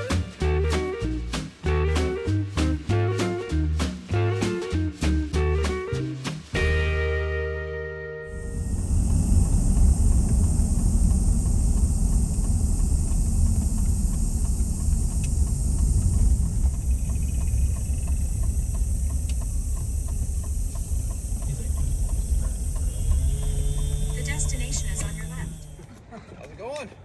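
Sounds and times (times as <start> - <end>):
vehicle driving: 0.0 - 25.9.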